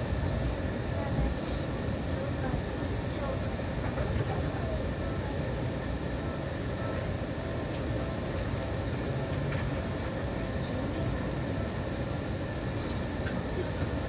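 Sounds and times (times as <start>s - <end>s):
stationary train humming: 0.0s - 14.0s.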